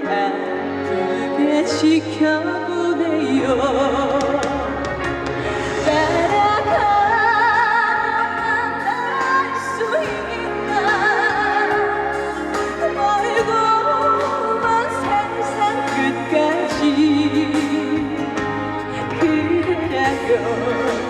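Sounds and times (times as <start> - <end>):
backing band playing: 0.0 - 21.0
woman singing with vibrato: 0.0 - 21.0.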